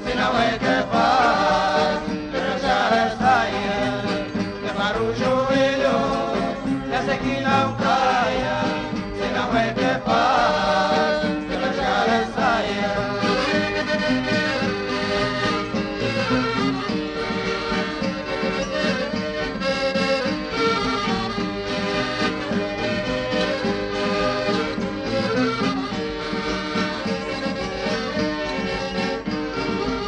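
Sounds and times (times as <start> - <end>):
accordion melody: 0.0 - 30.0
folk band playing: 0.0 - 30.0.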